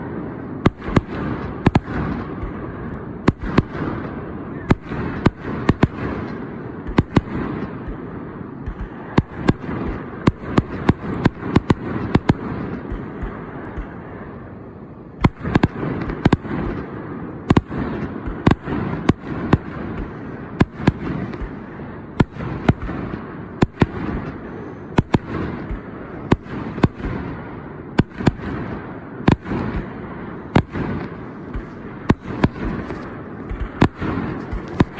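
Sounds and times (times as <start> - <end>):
continuous rumble: 0.0 - 34.9
fireworks bangs: 0.0 - 34.9.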